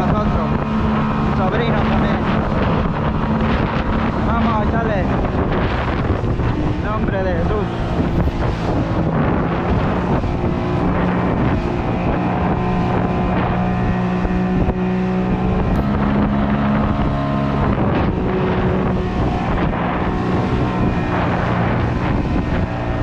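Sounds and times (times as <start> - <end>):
outboard motor running: 0.0 - 23.0
water rushing off hull: 0.0 - 23.0
wind buffeting microphone: 0.0 - 23.0.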